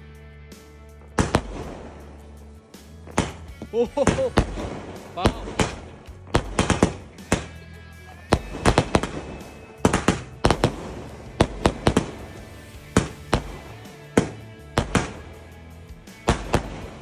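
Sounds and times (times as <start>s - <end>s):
firework shells bursting: 1.0s - 7.6s, 8.3s - 17.0s.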